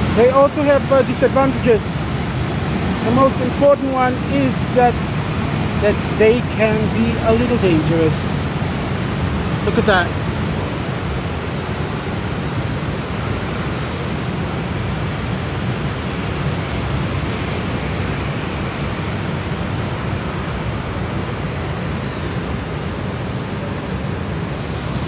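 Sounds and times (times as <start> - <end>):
motorbikes and scooters passing: 0.0 - 25.0.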